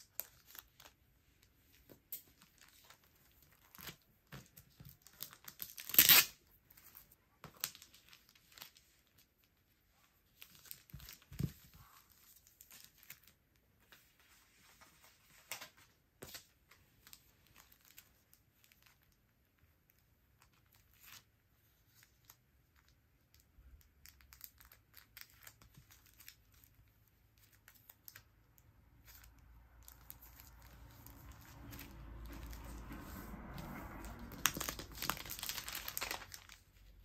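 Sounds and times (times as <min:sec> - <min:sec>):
plastic sleeves crinkling: 0:00.0 - 0:37.0.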